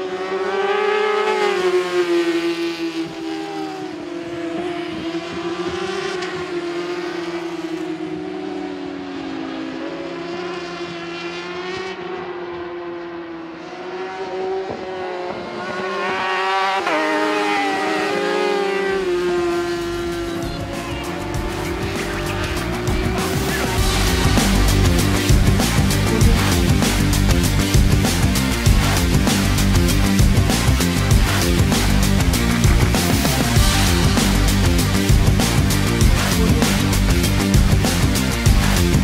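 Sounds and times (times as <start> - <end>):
racing motorcycles at high revs: 0.0 - 39.0.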